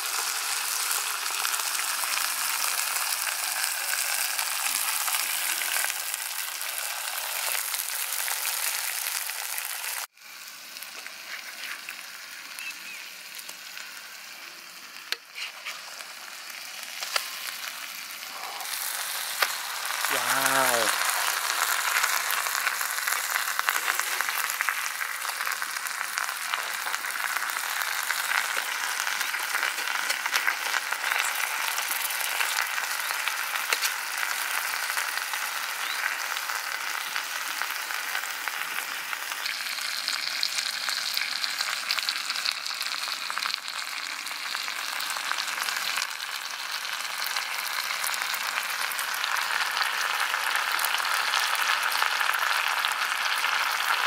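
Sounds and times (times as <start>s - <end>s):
fish frying in oil: 0.0s - 54.0s.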